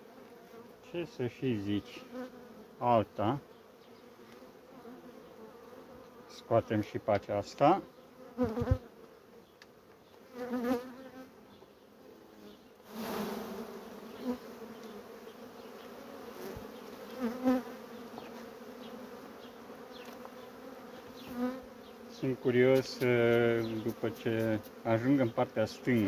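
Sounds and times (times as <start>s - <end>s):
bee humming close by: 0.0s - 26.0s
honeybees buzzing: 0.0s - 26.0s.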